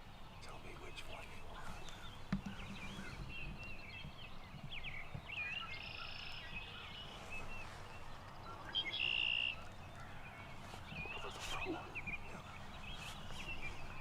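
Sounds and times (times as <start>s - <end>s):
songbirds chirping and singing: 0.0s - 14.0s.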